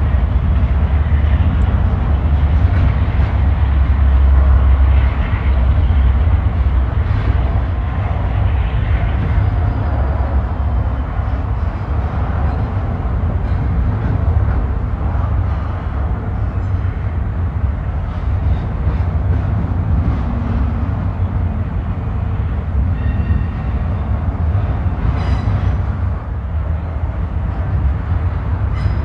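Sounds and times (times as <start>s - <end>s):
freight train wheels rumbling: 0.0s - 29.0s.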